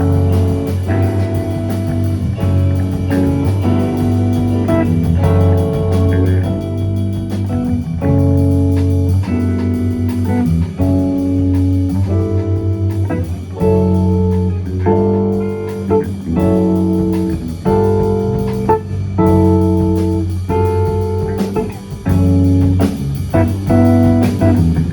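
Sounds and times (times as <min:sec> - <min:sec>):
guitar chords: 0:00.0 - 0:24.9
light drums: 0:00.0 - 0:24.9
steady bass line: 0:00.0 - 0:24.9.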